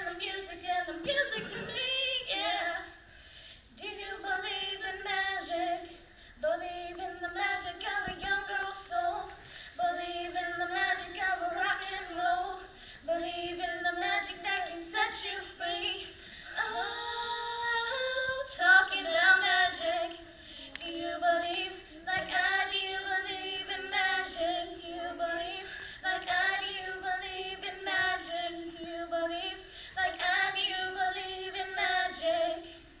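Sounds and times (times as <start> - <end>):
women singing unaccompanied: 0.0 - 3.0, 3.8 - 33.0.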